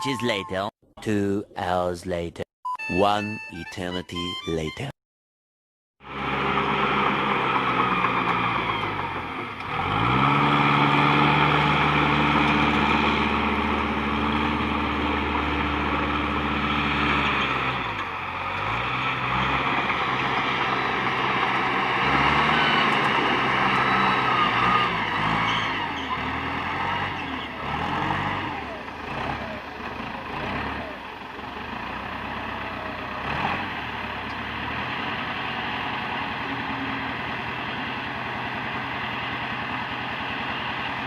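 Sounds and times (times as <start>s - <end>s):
excavator diesel engine: 6.0s - 41.0s.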